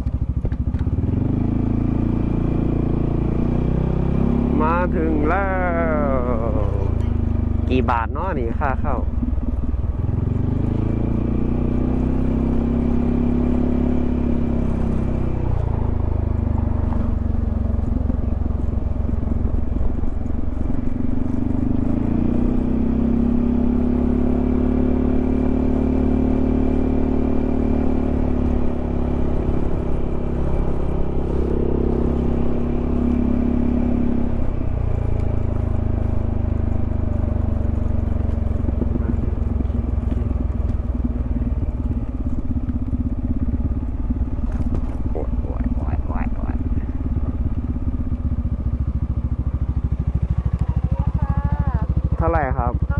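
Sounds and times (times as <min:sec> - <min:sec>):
scooter engine running: 0:00.0 - 0:52.9.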